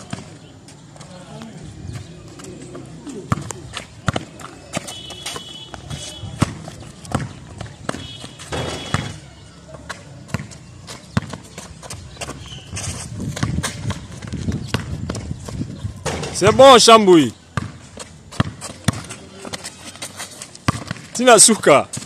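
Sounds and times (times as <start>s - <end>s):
basketball bouncing on concrete: 0.0s - 0.4s, 1.4s - 16.6s, 17.5s - 21.2s.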